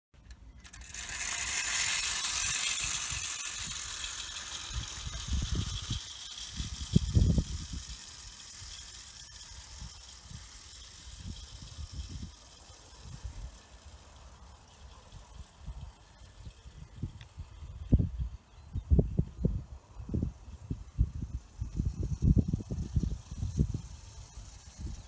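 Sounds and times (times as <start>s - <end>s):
clockwork motor whirring: 0.2s - 18.1s, 20.4s - 25.0s
toy train wheels rattling on rails: 0.2s - 18.1s, 20.3s - 25.0s.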